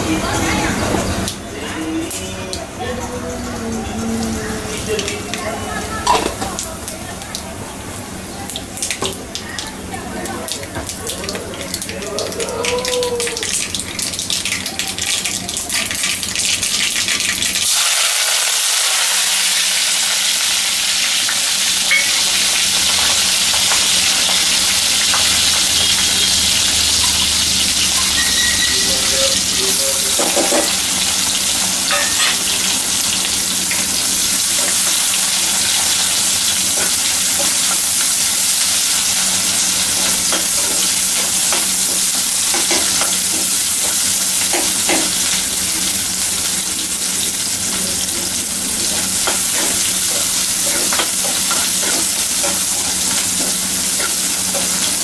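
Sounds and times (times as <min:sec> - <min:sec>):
vegetables sizzling in oil: 0:00.0 - 0:55.0
seeds crackling in hot oil: 0:06.0 - 0:55.0.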